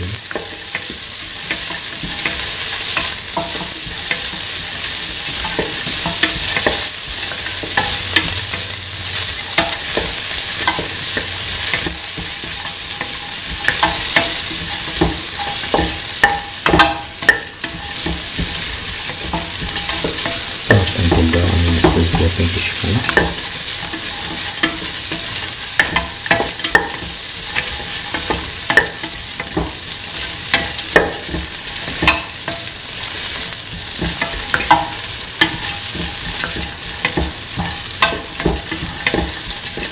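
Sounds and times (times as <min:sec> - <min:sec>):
onions sizzling in oil: 0:00.0 - 0:39.9.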